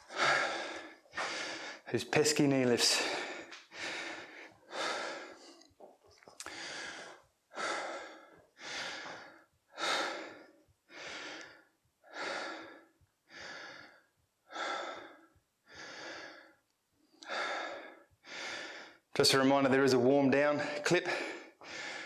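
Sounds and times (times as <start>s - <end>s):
man breathing hard: 0.0s - 2.0s, 2.6s - 5.8s, 6.4s - 19.1s, 20.6s - 22.0s.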